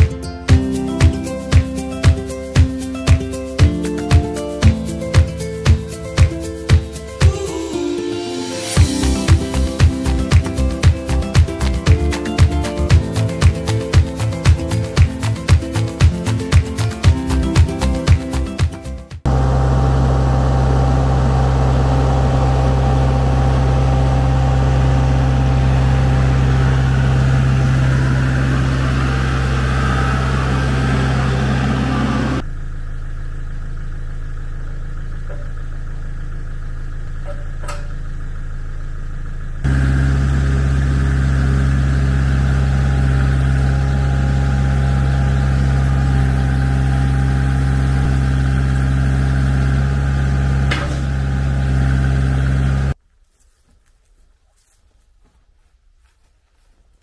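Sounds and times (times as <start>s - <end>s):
tractor engine running: 0.0s - 7.6s, 8.6s - 53.0s.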